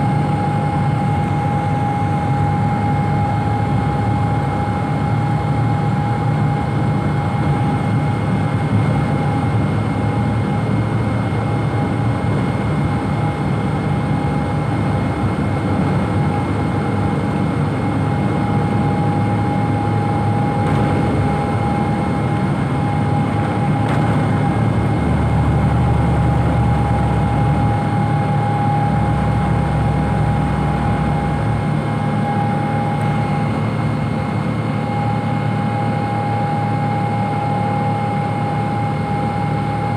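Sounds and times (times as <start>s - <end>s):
jet engine drone with whine: 0.0s - 39.9s.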